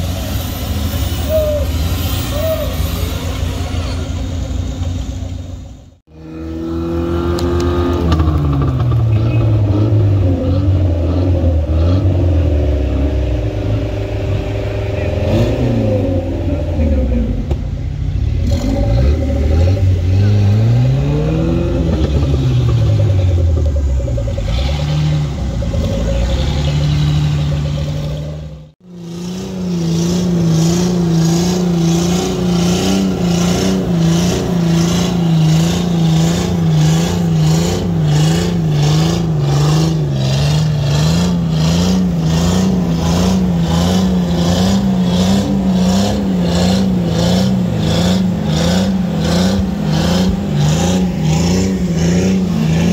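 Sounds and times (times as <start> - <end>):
off-road engine revving: 0.0 - 52.9.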